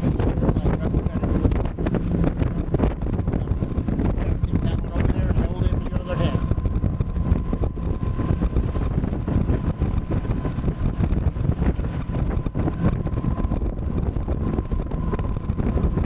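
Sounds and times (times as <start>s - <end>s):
thin steady whine: 0.0s - 16.0s
wind buffeting microphone: 0.0s - 16.0s.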